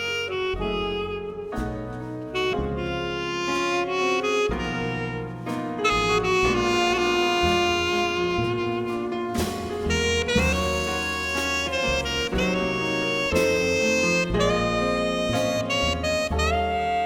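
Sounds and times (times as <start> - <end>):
drum kit: 0.0 - 17.0
piano: 0.0 - 17.0
saxophone melody: 0.0 - 17.0
upright bass: 0.0 - 17.0.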